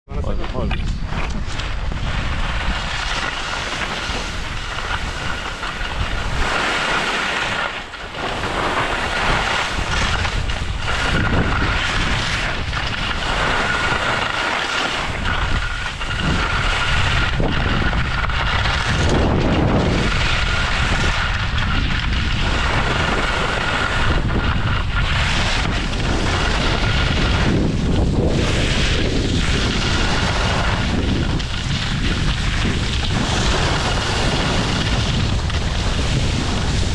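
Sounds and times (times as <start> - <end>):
skis sliding over snow: 0.1 - 36.9
wind buffeting microphone: 0.1 - 36.9.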